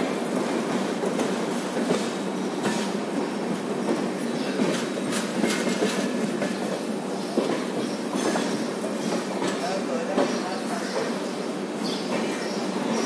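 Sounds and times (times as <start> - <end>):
train wheels rumbling on rail: 0.0 - 13.0
wheels clacking over rail joints: 0.3 - 11.2.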